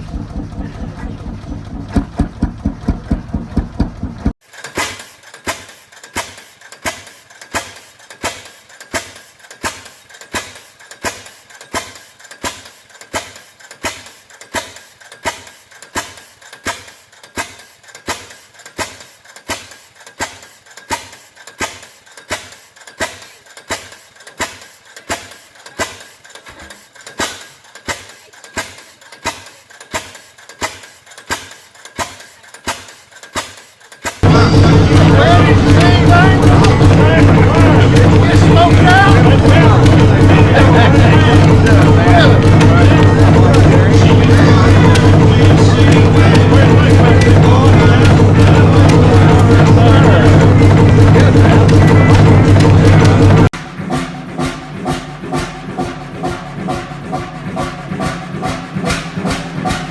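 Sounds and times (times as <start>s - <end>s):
stationary engine knocking: 0.0s - 59.9s.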